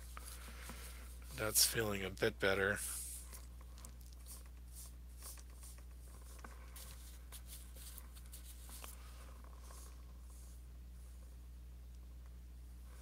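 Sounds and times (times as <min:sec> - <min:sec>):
paint brush strokes: 0:00.0 - 0:11.2.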